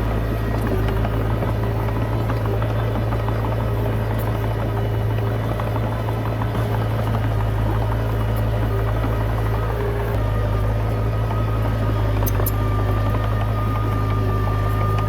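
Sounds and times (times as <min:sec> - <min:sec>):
bulldozer diesel engine running: 0:00.0 - 0:15.0
light clatter: 0:00.0 - 0:15.0.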